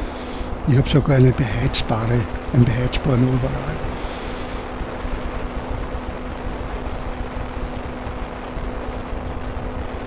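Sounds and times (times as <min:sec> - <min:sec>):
microlight engine drone: 0:00.0 - 0:10.0.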